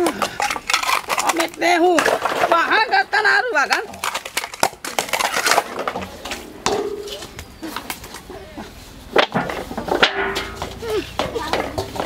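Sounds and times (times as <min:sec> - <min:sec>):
objects knocking and clattering: 0:00.0 - 0:08.3, 0:09.2 - 0:12.0.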